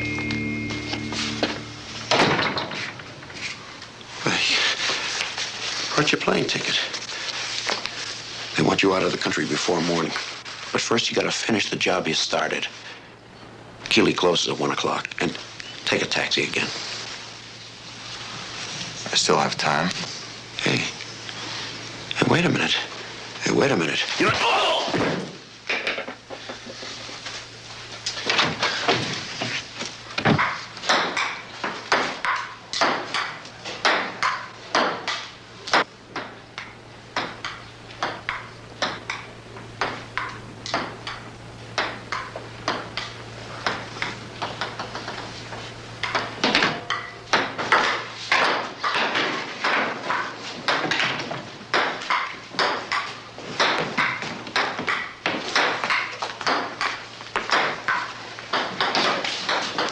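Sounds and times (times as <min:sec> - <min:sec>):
low steady hum: 0:00.0 - 0:48.7.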